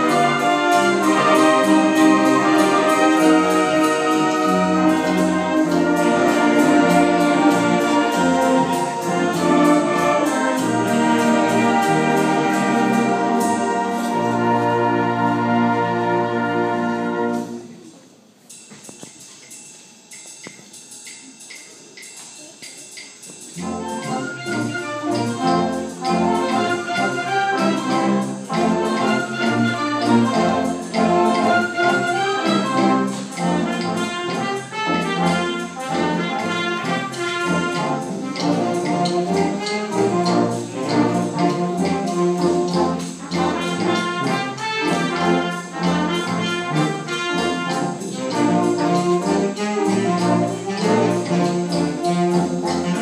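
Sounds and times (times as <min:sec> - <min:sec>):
concert wind band playing: 0:00.0 - 0:19.0, 0:22.2 - 0:53.0.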